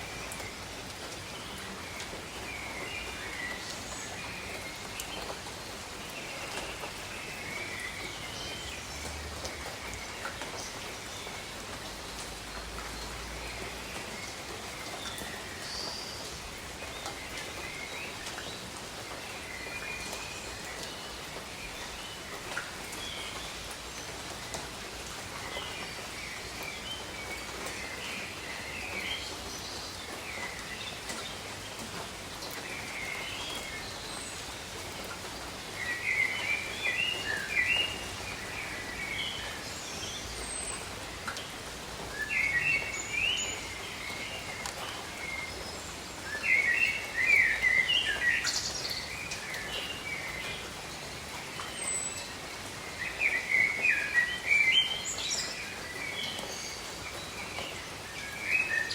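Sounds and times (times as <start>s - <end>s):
rain falling on foliage: 0.0s - 58.9s.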